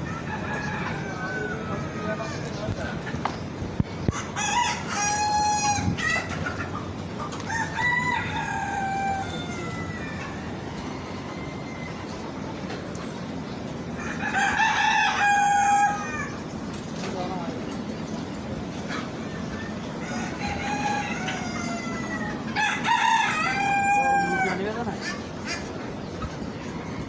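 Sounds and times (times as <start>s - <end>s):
roosters crowing: 0.0s - 12.9s, 13.5s - 17.5s, 18.3s - 27.0s.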